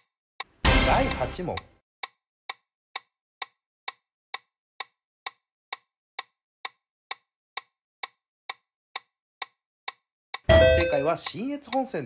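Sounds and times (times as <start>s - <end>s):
clock-like timer ticks: 0.0s - 12.0s.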